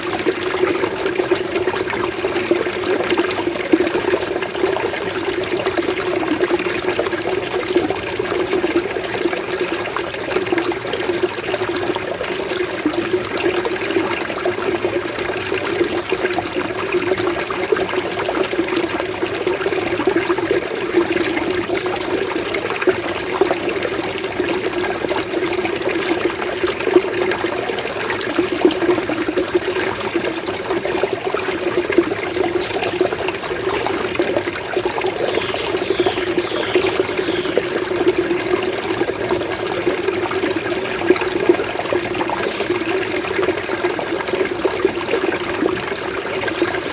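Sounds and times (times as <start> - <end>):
stream water burbling: 0.0 - 46.9.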